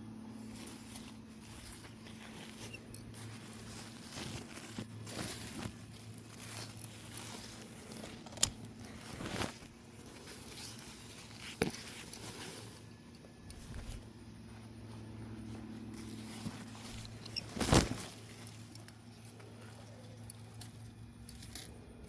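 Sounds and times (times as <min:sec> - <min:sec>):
rustling and crinkling: 0:00.3 - 0:22.0.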